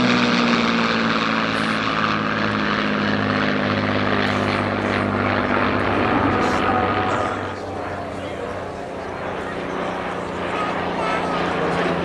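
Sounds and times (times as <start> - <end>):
jet rushing noise: 0.0 - 12.0
piston engine droning: 0.0 - 12.0.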